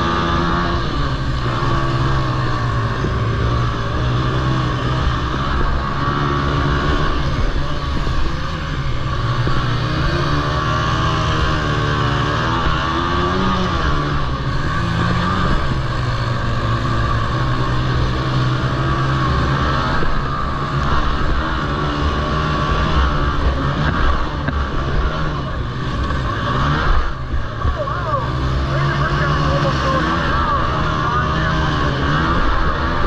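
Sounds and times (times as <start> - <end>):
quad engines racing: 0.0 - 33.0.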